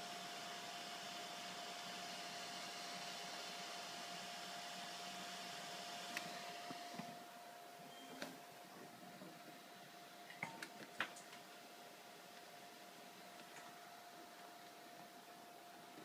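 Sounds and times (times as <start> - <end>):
computer fans whirring: 0.0 - 16.0.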